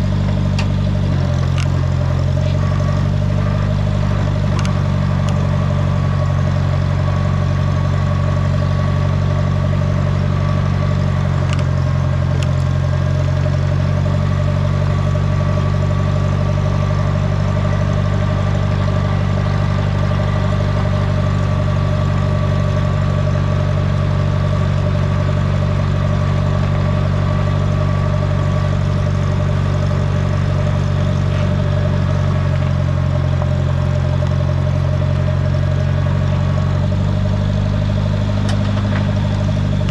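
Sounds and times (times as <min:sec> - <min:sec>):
road grader engine running: 0:00.0 - 0:39.9.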